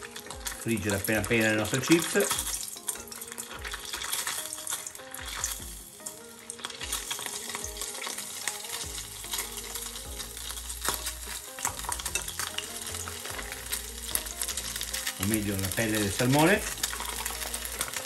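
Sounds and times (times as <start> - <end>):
fish skin deep-frying in oil: 0.0 - 18.0.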